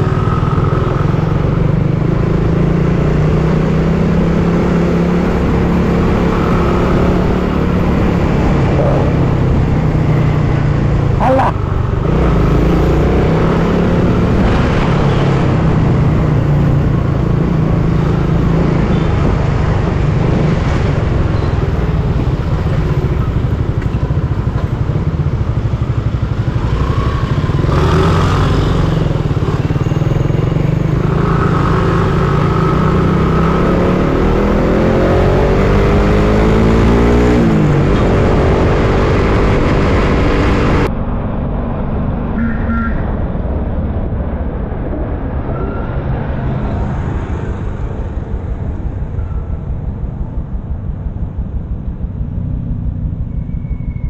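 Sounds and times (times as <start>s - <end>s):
motorcycle engine accelerating: 0.0s - 43.9s
wind and road noise: 0.0s - 54.0s.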